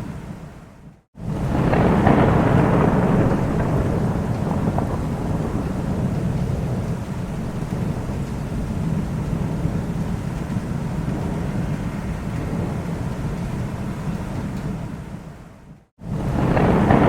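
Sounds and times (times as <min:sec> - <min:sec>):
rain: 0:00.0 - 0:17.0
rolling thunder: 0:01.2 - 0:17.0.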